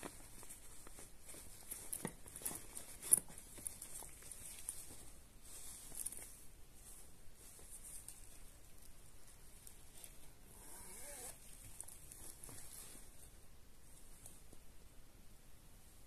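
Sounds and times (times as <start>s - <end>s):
fabric rustling: 0.0s - 14.9s.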